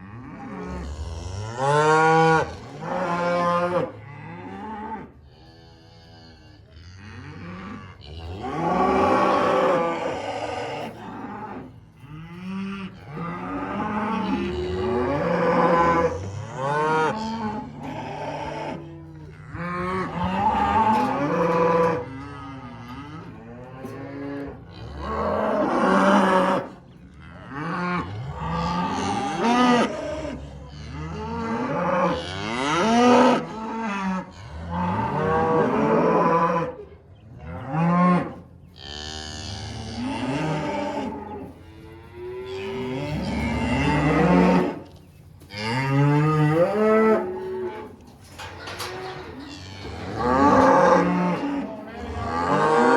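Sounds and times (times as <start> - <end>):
cattle mooing and bawling: 0.0 - 26.8, 27.4 - 52.9.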